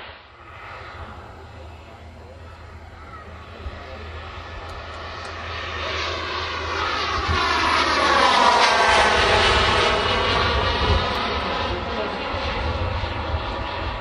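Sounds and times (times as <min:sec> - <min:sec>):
model jet engine whine: 0:00.0 - 0:14.0.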